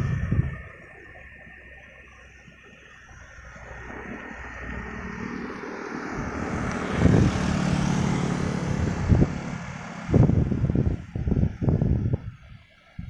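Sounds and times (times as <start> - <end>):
vehicle engine droning past: 0.0 - 12.4.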